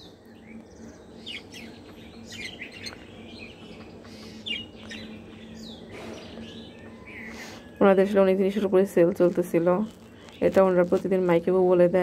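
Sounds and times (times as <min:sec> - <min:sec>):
birds chirping and twittering: 0:00.0 - 0:12.0
faint steady hum: 0:00.0 - 0:12.0.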